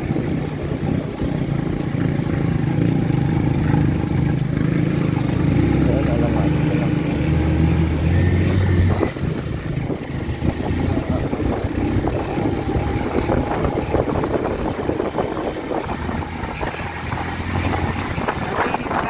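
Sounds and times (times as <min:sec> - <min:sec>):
motorcycle engine at low speed: 0:00.0 - 0:19.0
motorcycle rattling over bumps: 0:00.0 - 0:19.0.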